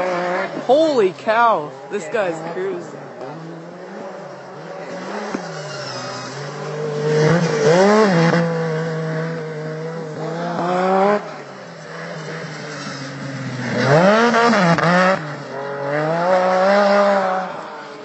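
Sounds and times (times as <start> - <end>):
snowmobile engine passing: 0.0 - 18.0.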